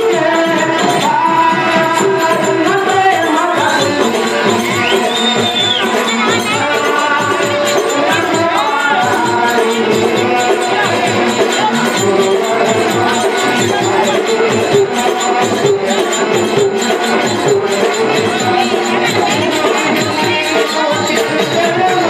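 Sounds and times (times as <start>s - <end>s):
held melody line: 0.0s - 22.0s
jingling percussion: 0.0s - 22.0s
tabla and hand drum: 0.0s - 22.0s.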